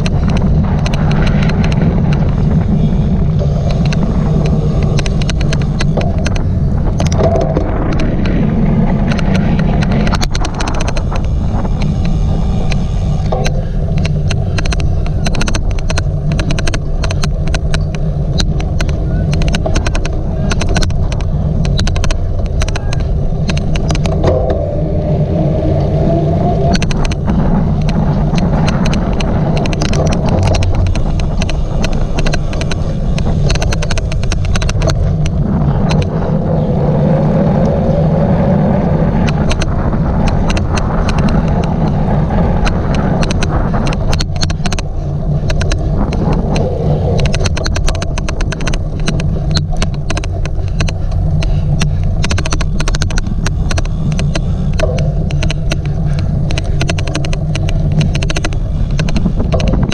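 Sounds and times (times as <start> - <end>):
bike rumbling over rough ground: 0.0 - 59.9
sharp irregular clicks: 0.0 - 59.9.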